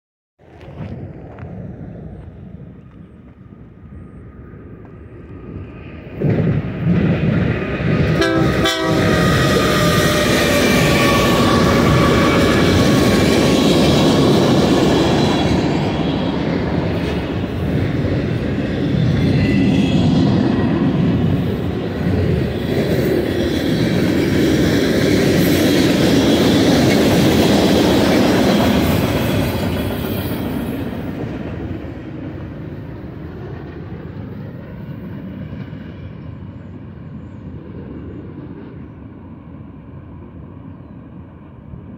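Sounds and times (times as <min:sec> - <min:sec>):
freight cars rumbling on rails: 0:00.4 - 0:39.6
diesel locomotives running: 0:00.4 - 0:41.9.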